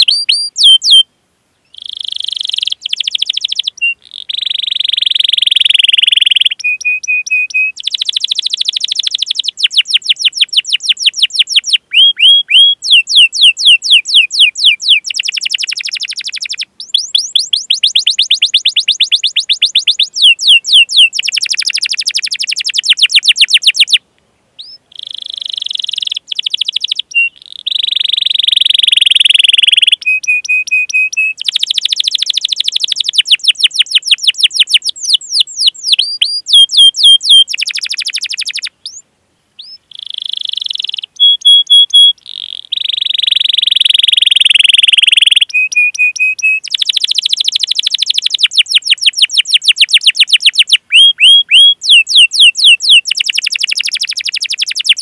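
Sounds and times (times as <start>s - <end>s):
canary singing trills: 0.0s - 24.0s, 24.6s - 39.0s, 39.6s - 55.0s.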